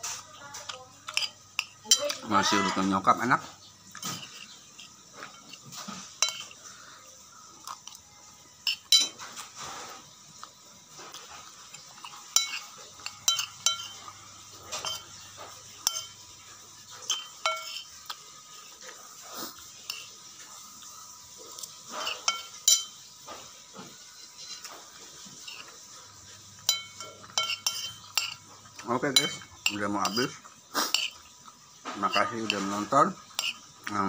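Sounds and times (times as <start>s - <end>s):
metal spoon scraping a plate: 0.0s - 3.1s, 3.9s - 6.9s, 8.6s - 20.7s, 21.5s - 34.0s.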